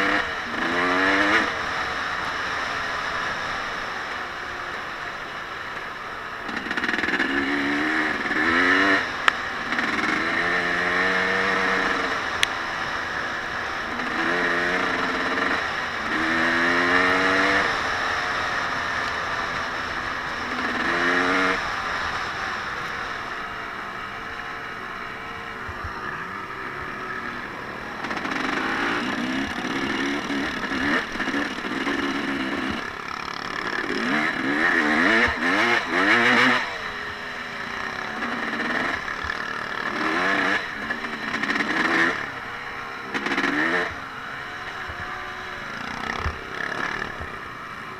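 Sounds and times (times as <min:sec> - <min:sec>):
small vehicle engine revving: 0:00.0 - 0:05.0, 0:05.7 - 0:47.9.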